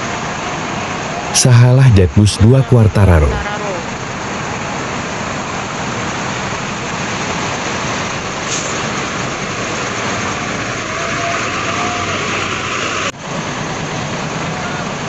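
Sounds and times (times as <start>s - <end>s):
bus engine rumbling: 0.0s - 15.0s
surrounding traffic: 0.0s - 15.0s.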